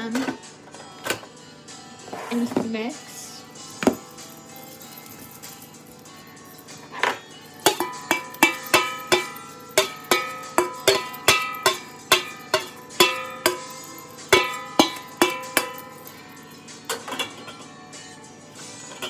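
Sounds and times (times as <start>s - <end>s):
plucked-string melody: 3.7s - 19.0s.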